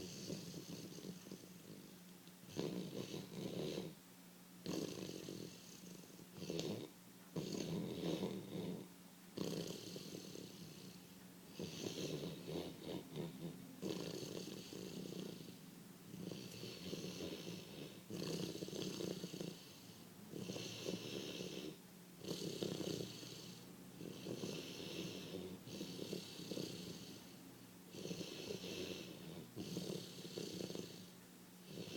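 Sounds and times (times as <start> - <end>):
dog snoring: 0.0 - 4.0, 4.6 - 31.9.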